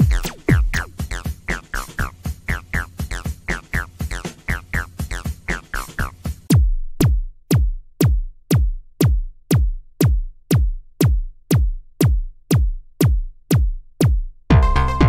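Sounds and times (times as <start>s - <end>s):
drum machine kick drum: 0.0s - 15.0s.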